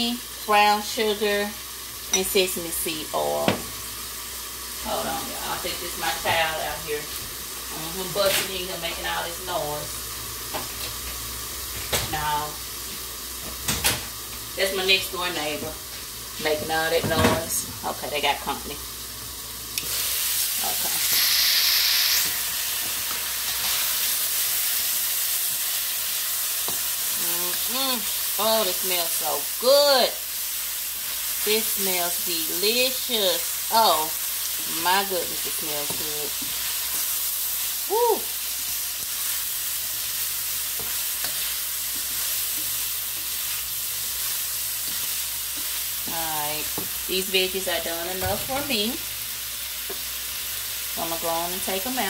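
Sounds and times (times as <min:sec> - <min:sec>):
vegetables sizzling in a frying pan: 0:00.0 - 0:52.0.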